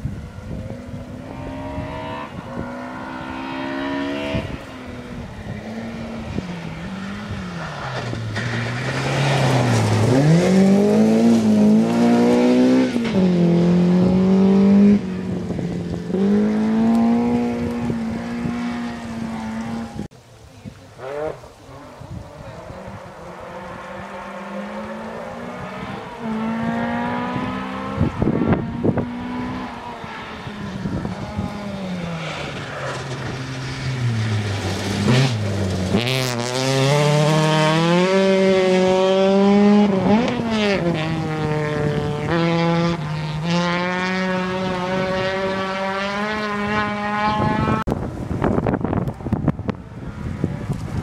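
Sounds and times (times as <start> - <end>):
rally car engine revving: 1.2 - 20.1, 21.0 - 51.0.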